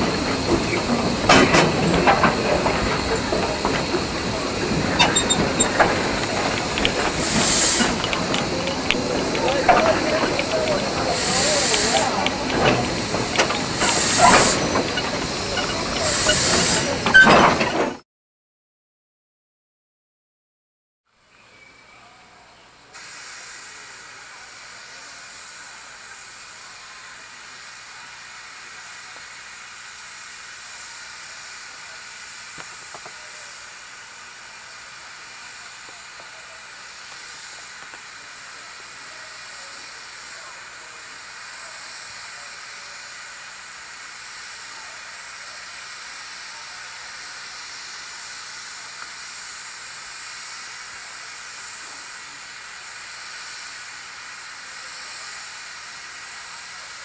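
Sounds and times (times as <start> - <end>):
steam hissing: 0.0 - 17.8, 22.8 - 57.0.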